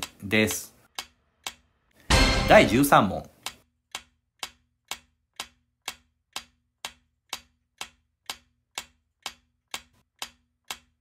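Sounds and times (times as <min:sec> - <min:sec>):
clock-like ticking: 0:00.0 - 0:11.0.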